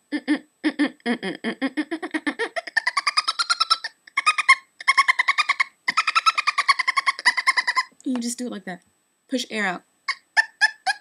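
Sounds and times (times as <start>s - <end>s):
woman making monkey-like noise: 0.0s - 8.0s, 10.1s - 11.0s.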